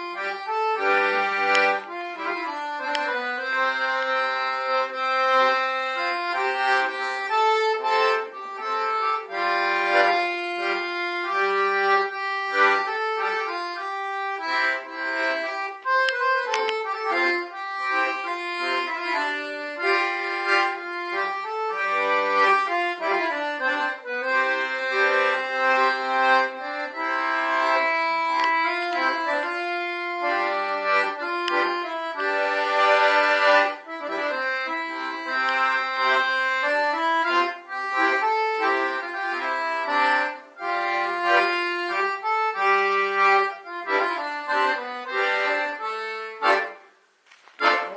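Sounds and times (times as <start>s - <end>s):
accordion playing folk tune: 0.0s - 47.9s.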